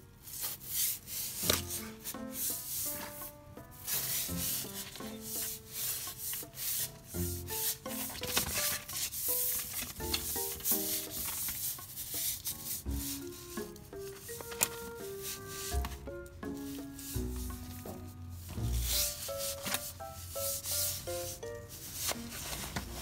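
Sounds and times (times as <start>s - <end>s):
background music with stepped melody: 0.2s - 23.0s
cloth rubbing and rustling: 0.2s - 23.0s.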